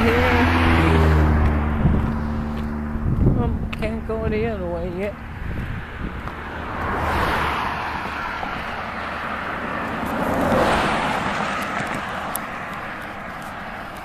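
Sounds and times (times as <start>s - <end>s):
passing road traffic: 0.0s - 14.0s.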